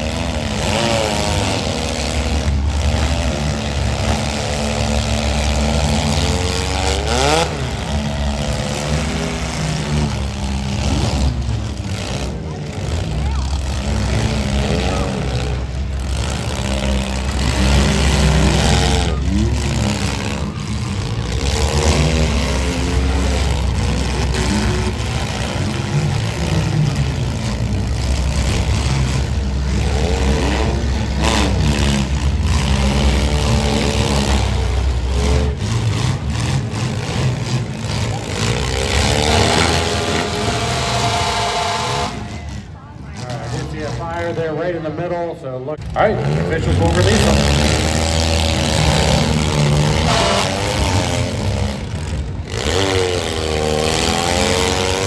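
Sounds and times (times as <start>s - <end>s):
car engines idling and revving: 0.0s - 55.0s.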